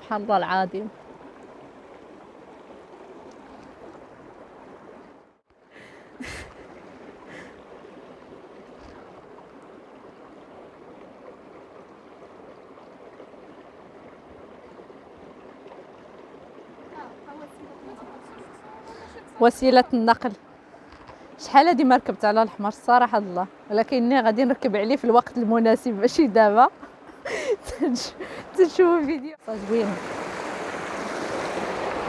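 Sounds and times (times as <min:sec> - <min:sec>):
water running over rocks: 0:00.0 - 0:32.0.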